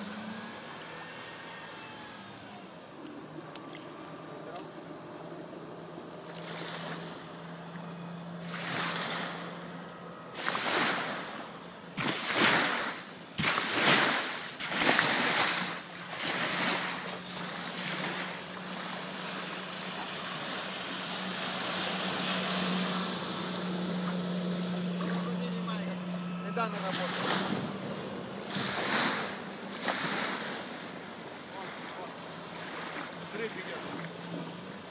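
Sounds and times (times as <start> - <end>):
outboard motor humming: 0.0 - 34.9.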